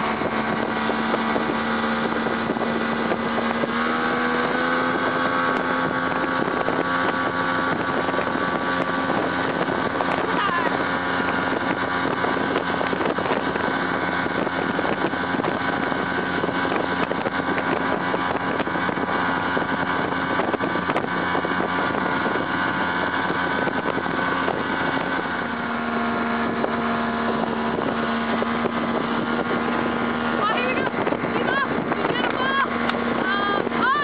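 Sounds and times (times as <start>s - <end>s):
motorboat engine running: 0.0s - 34.0s
rush of boat wake: 0.0s - 34.0s
wind: 0.0s - 34.0s.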